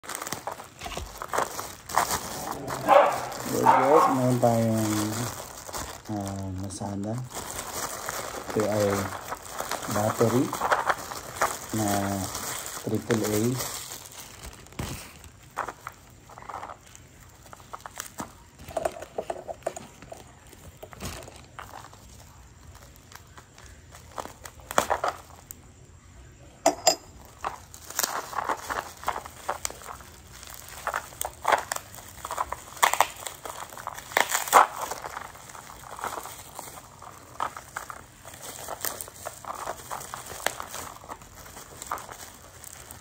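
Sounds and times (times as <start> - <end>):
plastic wrapping crinkling: 0.0 - 43.0.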